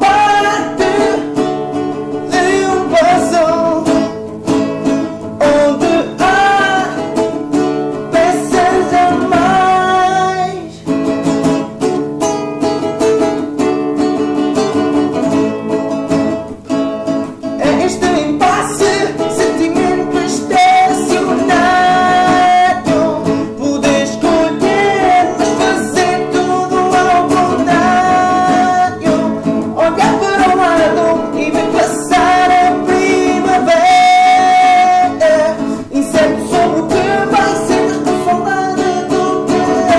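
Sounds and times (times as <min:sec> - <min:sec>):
person singing: 0:00.0 - 0:11.0, 0:17.4 - 0:39.9
acoustic guitar plucked and strummed: 0:00.0 - 0:39.9.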